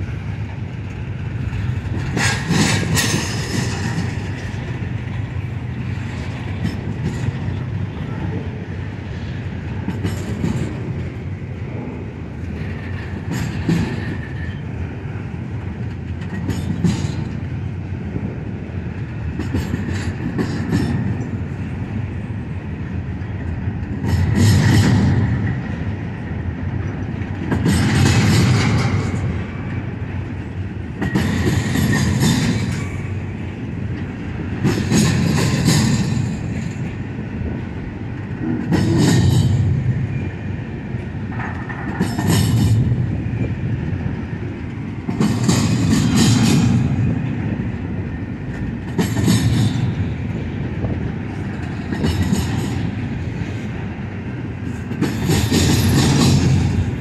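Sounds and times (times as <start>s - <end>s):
freight train rolling past: 0.0s - 57.0s
train wheel clatter: 0.0s - 57.0s.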